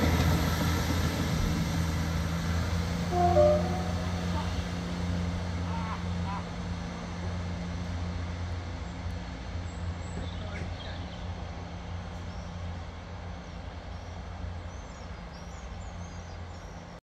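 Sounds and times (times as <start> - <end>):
train engine idling: 0.0 - 17.0.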